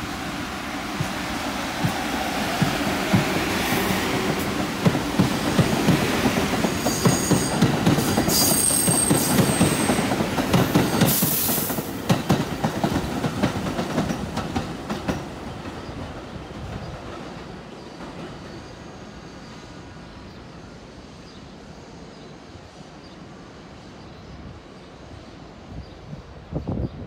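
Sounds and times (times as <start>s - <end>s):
subway train wheels clacking: 0.0s - 22.8s.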